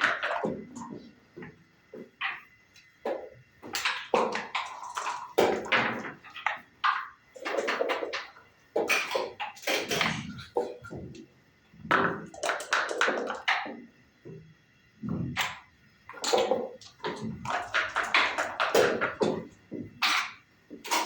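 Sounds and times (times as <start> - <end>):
dice and checkers clacking on board: 0.0 - 11.2, 11.8 - 13.9, 15.1 - 21.0.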